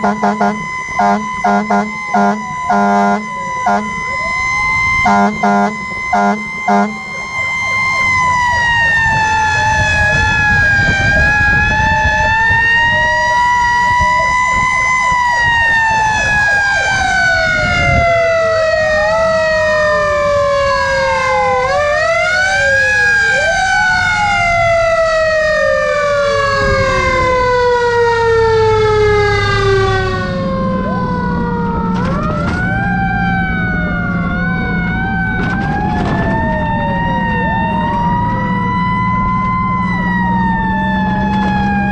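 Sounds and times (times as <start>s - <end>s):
fire truck sirens wailing: 0.0s - 41.9s
low rumble of truck engines: 0.0s - 41.9s.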